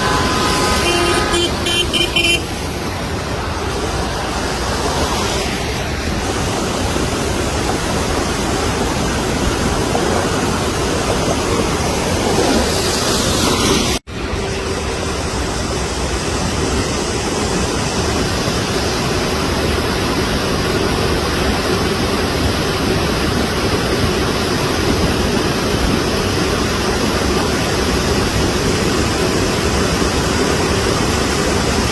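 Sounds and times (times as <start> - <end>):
floodwater rushing in a stream: 0.0 - 31.9.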